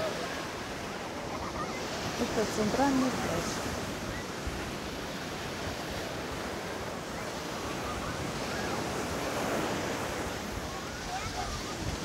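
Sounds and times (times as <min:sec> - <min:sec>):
waves breaking on beach: 0:00.0 - 0:12.0
wind buffeting microphone: 0:01.9 - 0:12.0.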